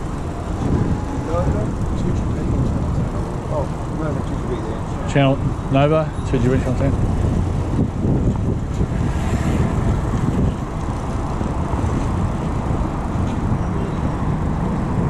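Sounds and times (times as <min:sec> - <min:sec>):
bicycle road noise: 0:00.0 - 0:15.0
wind rushing over microphone: 0:00.0 - 0:15.0.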